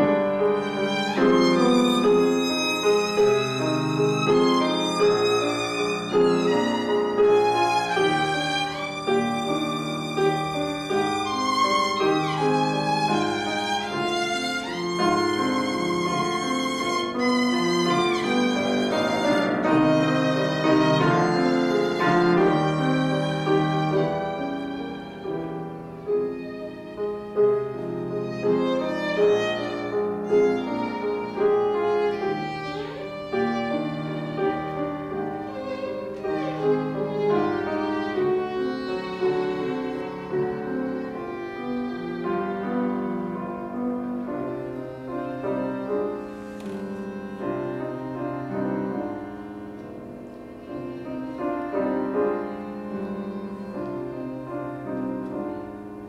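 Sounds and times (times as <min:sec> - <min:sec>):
piano chords: 0:00.0 - 0:56.0
violin playing long bowed notes: 0:00.0 - 0:56.0.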